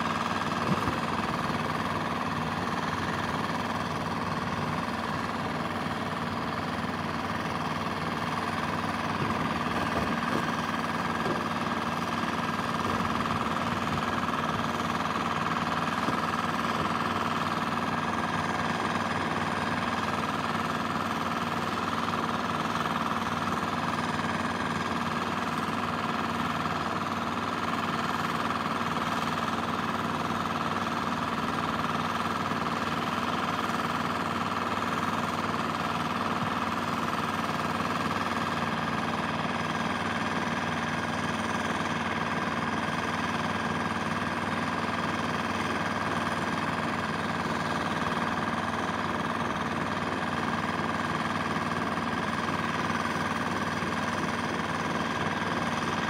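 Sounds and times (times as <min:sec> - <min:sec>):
engine running with knocking rattle: 0:00.0 - 0:56.0.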